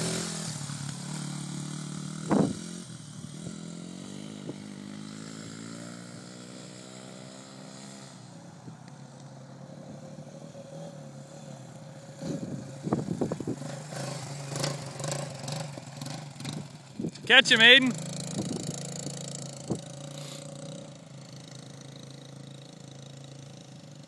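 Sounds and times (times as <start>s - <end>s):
dirt bike and quad engines: 0.0s - 24.0s.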